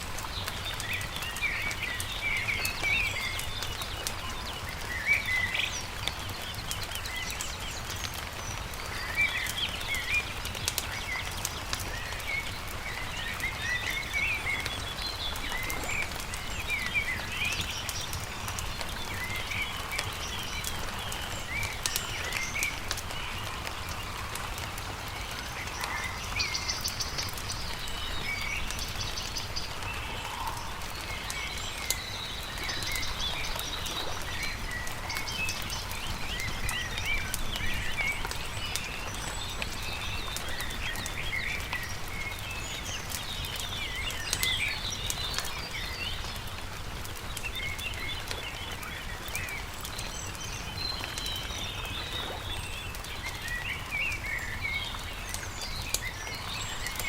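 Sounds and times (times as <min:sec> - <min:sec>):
campfire crackling: 0:00.0 - 0:57.0
songbirds chirping and trilling: 0:00.0 - 0:57.0.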